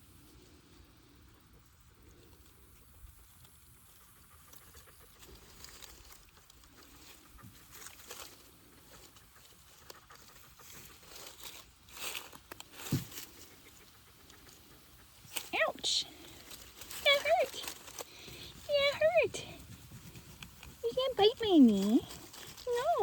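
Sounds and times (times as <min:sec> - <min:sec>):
fox rustling and scuffling: 0:02.0 - 0:23.0.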